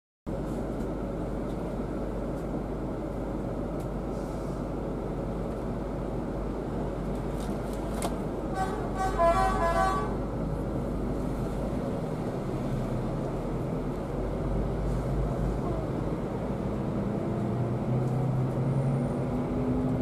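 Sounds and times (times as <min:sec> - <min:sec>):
coach engine and road rumble: 0:00.3 - 0:20.0.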